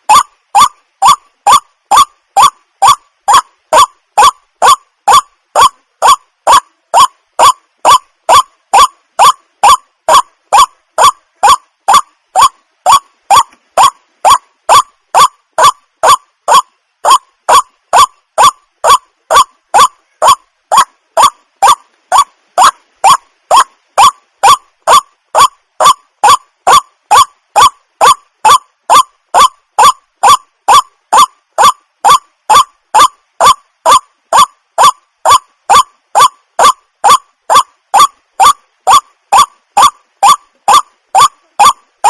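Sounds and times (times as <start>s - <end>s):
water hen calling harshly: 0.0s - 41.8s.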